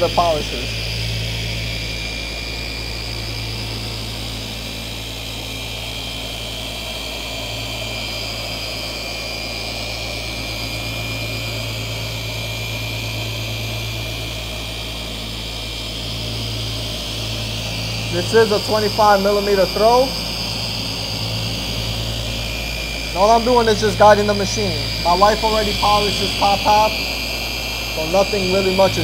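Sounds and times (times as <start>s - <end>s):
polisher motor hum and whine: 0.0s - 29.0s.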